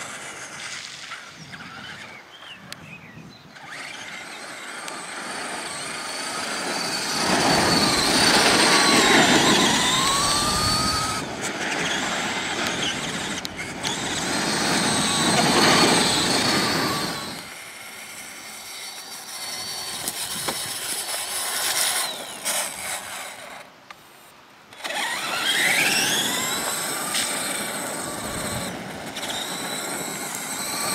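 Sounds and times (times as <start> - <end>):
rc truck motor whine: 0.0 - 30.9.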